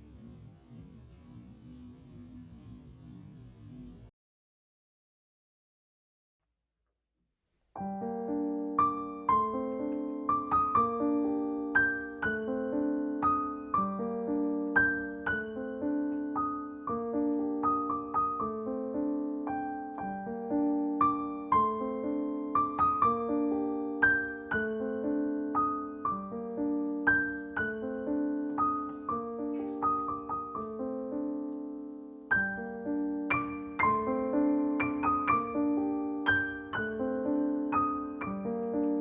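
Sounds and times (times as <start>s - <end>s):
gentle piano piece: 7.8s - 39.0s.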